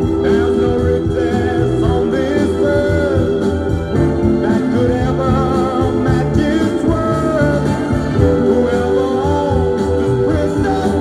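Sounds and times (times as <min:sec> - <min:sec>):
rock song with singing: 0:00.0 - 0:11.0.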